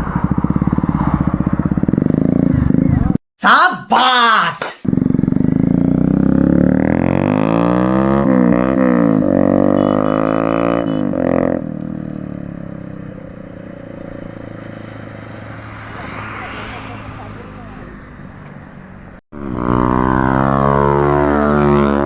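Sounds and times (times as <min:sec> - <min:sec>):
motorcycle engine revving: 0:00.0 - 0:03.2, 0:04.8 - 0:22.0.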